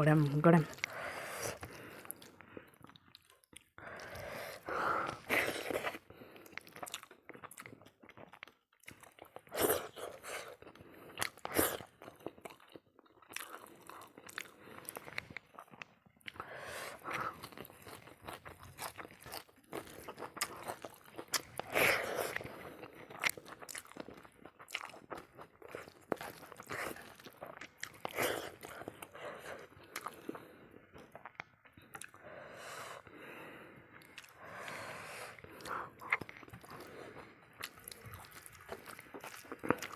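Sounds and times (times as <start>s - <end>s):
person chewing and crunching: 0.2s - 39.9s.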